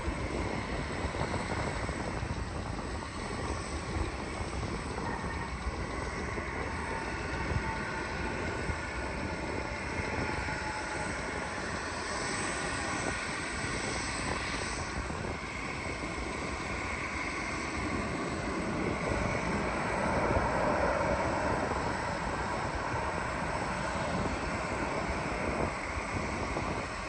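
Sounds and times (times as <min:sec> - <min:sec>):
jet engines rumbling with whine: 0:00.0 - 0:27.0.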